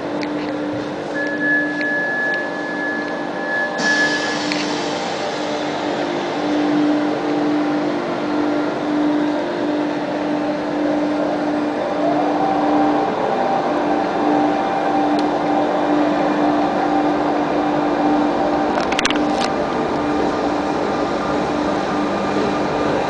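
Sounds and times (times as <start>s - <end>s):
train humming: 0.0s - 23.0s
train motor whine rising: 0.1s - 23.0s.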